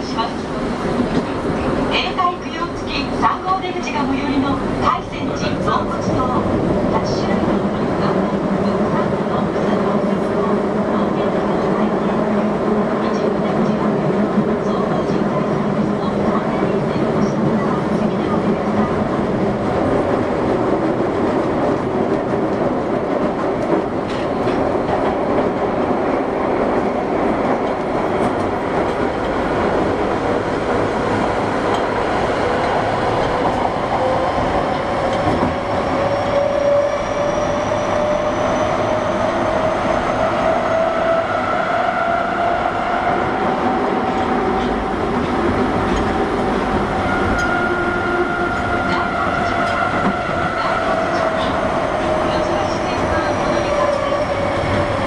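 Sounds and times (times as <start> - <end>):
subway train running noise: 0.0 - 55.0.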